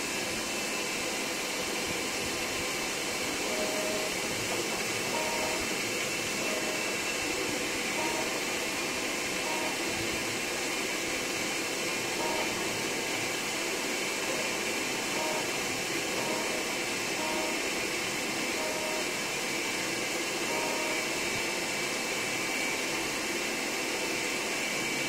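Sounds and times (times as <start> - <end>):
vacuum blower rushing hiss: 0.0 - 25.0.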